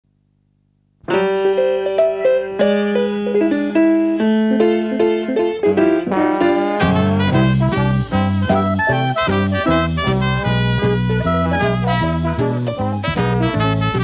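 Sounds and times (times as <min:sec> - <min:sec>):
keyboard melody with chords: 0:01.0 - 0:14.0.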